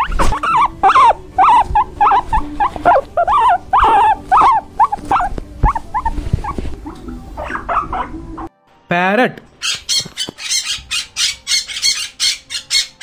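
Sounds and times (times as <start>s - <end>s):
guinea pig squeaking: 0.0s - 8.5s, 9.6s - 13.0s.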